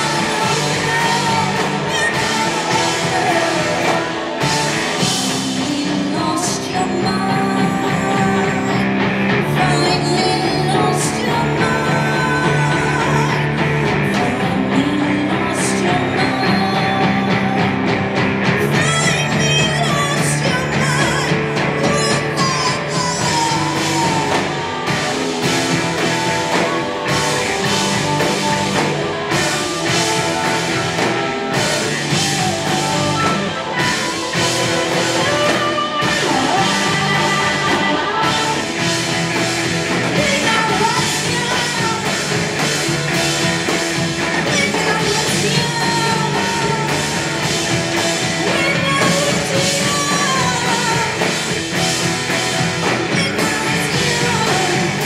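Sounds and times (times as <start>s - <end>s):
lead vocal singing: 0.0s - 55.0s
live punk rock band: 0.0s - 55.0s.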